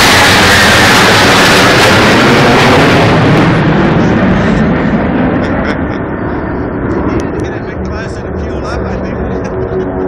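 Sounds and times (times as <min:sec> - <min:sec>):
jet aircraft roar overhead: 0:00.0 - 0:10.0.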